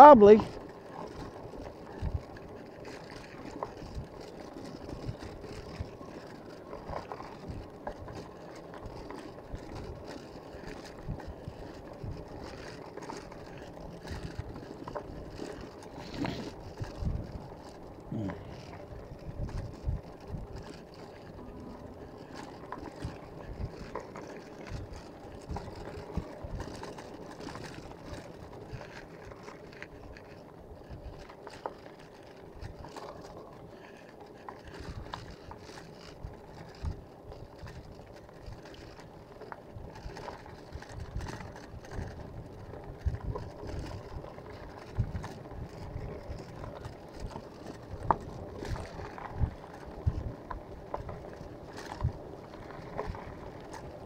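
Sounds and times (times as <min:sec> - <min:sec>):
road noise: 0:00.0 - 0:54.0
wind buffeting microphone: 0:00.2 - 0:32.9, 0:39.7 - 0:54.0.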